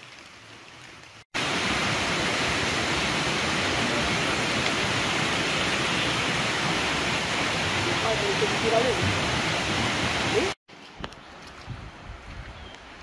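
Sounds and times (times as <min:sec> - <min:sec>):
water rushing: 0:00.0 - 0:10.6.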